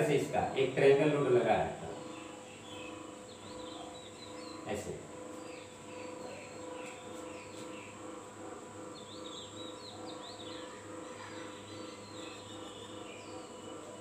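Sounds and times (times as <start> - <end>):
pulsing background hum: 0.0 - 14.0
small birds chirping: 0.0 - 14.0.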